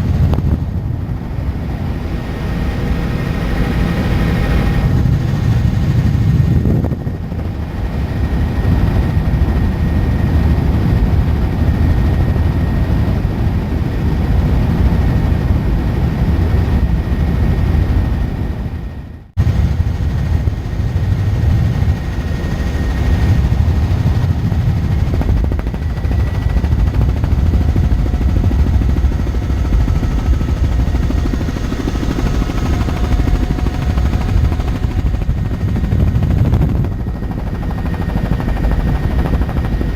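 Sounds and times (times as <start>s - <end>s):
helicopter rotor rumble: 0.0s - 39.9s.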